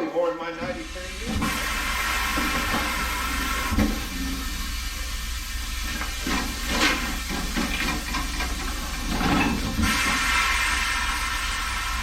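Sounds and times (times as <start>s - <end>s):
steady hissing noise: 0.3s - 12.0s.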